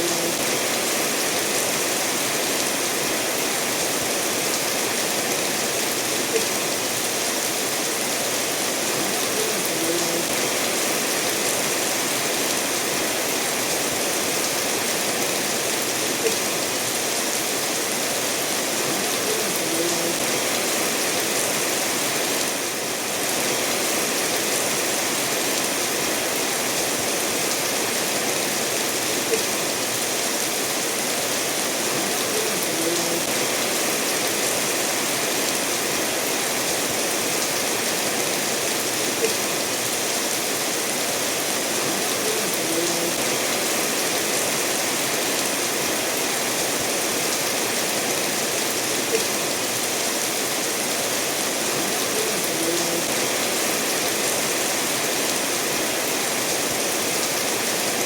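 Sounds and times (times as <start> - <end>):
steady rainfall: 0.0 - 58.0
stream running over stones: 0.0 - 58.0.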